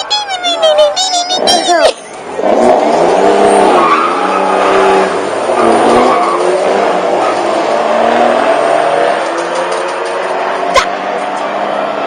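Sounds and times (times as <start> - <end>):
car engine accelerating hard: 2.1 - 12.0.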